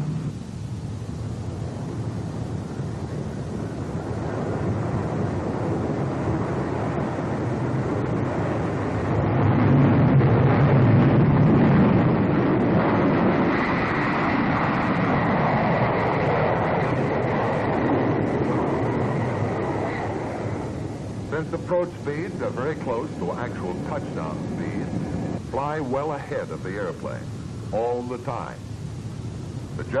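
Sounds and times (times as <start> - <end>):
high steady whine: 0.0 - 30.0
jet engines roaring: 0.0 - 30.0.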